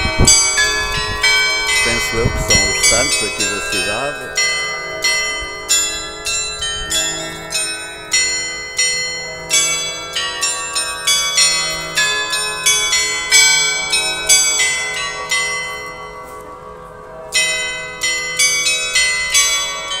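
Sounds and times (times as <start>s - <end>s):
glockenspiel bells ringing a tune: 0.0s - 20.0s.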